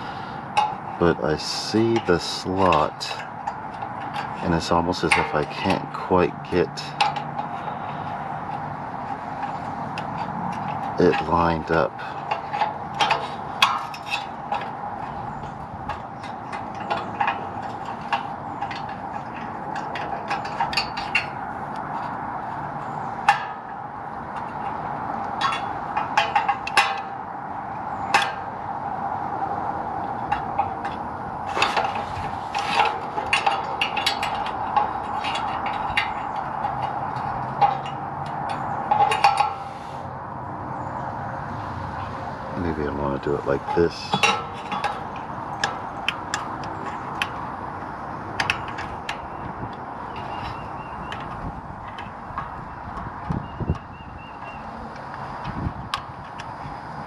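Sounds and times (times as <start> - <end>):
small metal clicks and scrapes: 0.0 - 40.1, 41.9 - 57.0
steady background hum: 0.0 - 57.0.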